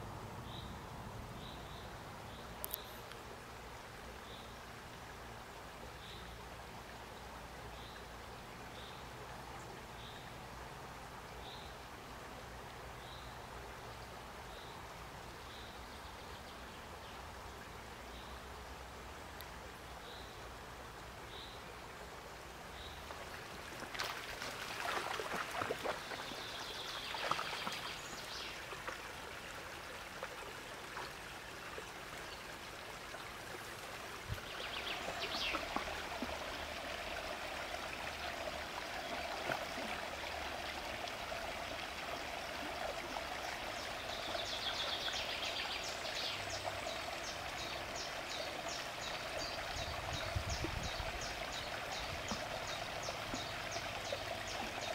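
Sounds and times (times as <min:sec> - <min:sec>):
brook flowing: 0:00.0 - 0:54.9.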